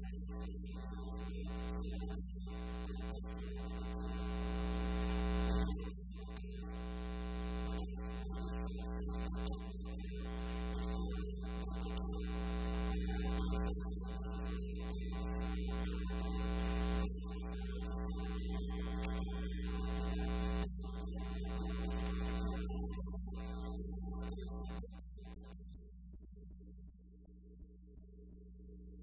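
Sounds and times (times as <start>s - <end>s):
electrical mains hum: 0.0s - 25.4s.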